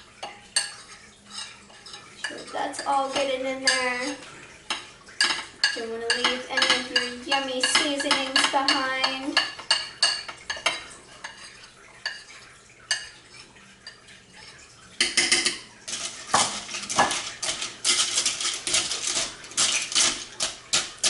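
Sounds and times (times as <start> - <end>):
spoon stirring in metal pot: 0.0 - 21.0
spoon scraping a bowl: 0.2 - 21.0.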